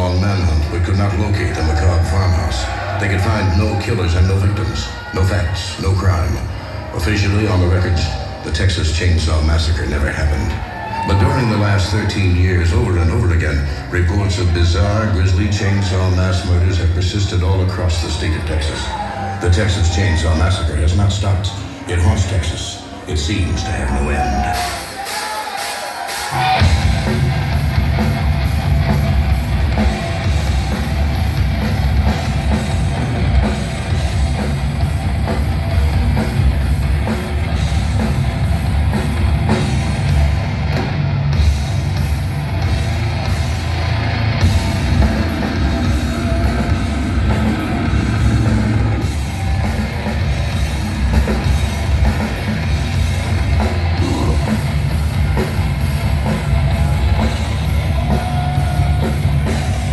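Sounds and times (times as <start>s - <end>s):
death metal band playing: 0.0s - 22.5s, 23.2s - 59.9s.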